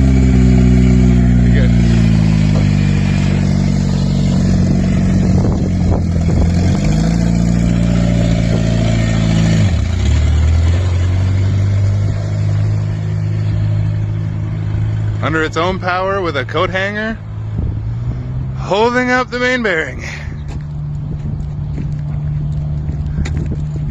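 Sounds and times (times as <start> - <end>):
loud car engine pulling away: 0.0 - 23.9.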